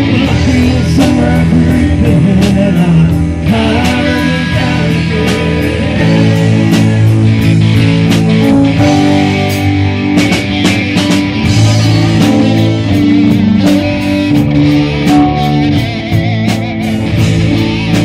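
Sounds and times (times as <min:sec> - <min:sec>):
drum kit and cymbal hits: 0:00.0 - 0:18.0
electric guitar bent notes: 0:00.0 - 0:18.0.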